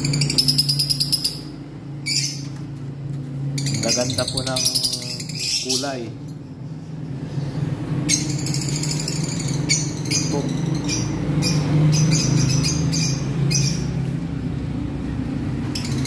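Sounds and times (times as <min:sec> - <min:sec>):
lovebirds calling: 0:00.0 - 0:16.0
steady low hum: 0:00.0 - 0:16.0.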